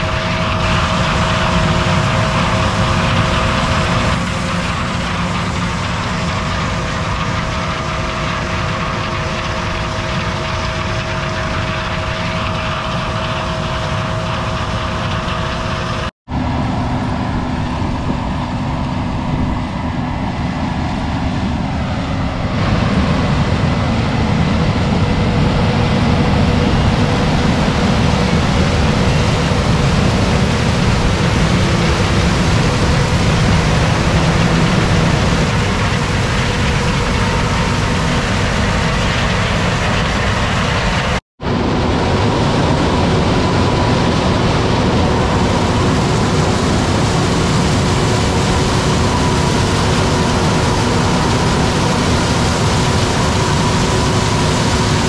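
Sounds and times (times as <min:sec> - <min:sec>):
diesel farm machinery running: 0:00.0 - 0:55.0.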